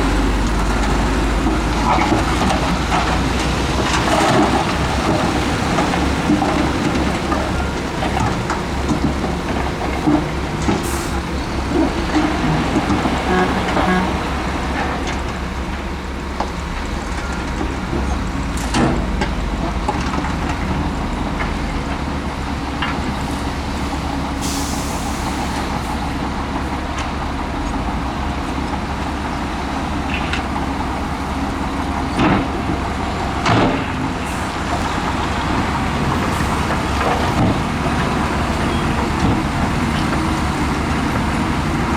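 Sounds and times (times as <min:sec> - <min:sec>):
heavy machinery diesel engines: 0:00.0 - 0:41.9.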